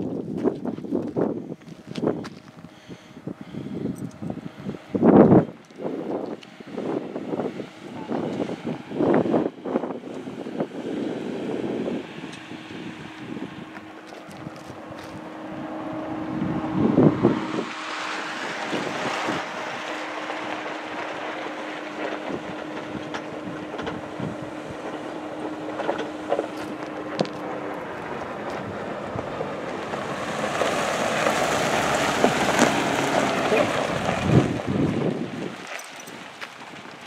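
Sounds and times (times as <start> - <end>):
vehicle driving on gravel: 0.0 - 37.0
wind buffeting microphone: 0.0 - 37.0.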